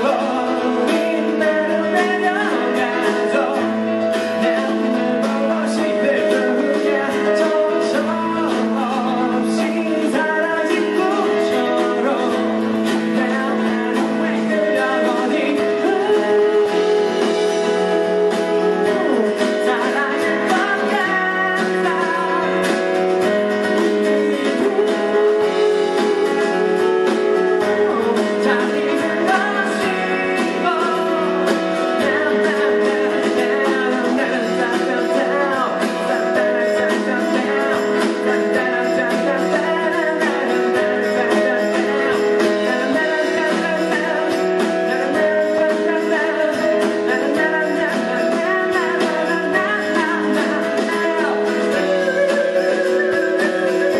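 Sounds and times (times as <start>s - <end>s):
acoustic guitar strumming: 0.0s - 53.9s
man singing into a microphone: 0.0s - 53.9s.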